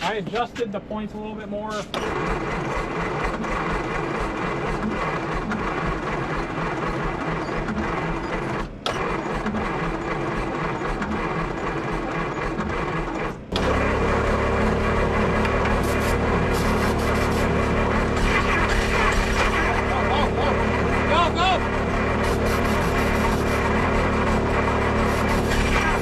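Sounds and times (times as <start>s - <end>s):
car starter cranking engine: 0.0s - 26.0s.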